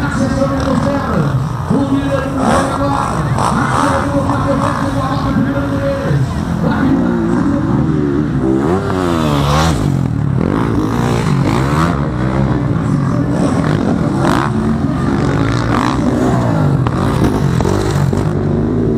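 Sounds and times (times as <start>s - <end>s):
motocross bike engines revving: 0.0s - 18.9s.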